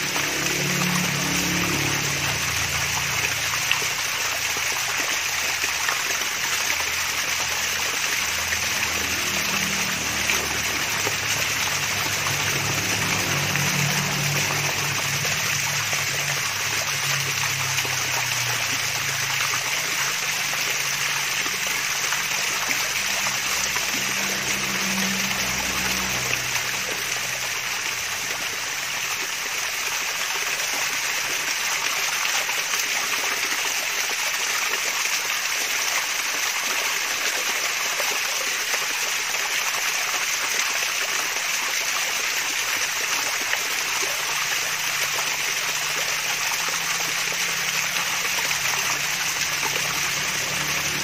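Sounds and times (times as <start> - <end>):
low water gurgle: 0.0 - 51.0
small waterfall splashing: 0.0 - 51.0.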